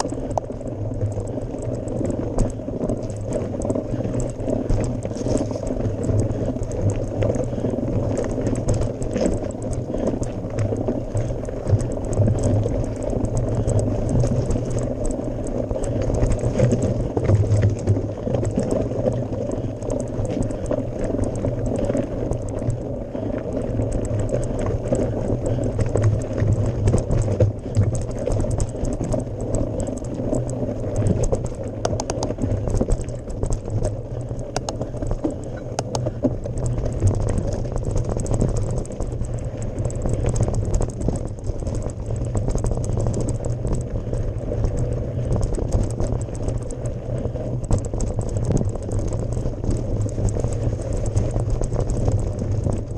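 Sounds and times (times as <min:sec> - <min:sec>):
tyres crunching over gravel: 0:00.0 - 0:52.0
bike clicks and rattles: 0:00.0 - 0:52.9
steady low rumble: 0:00.0 - 0:52.9.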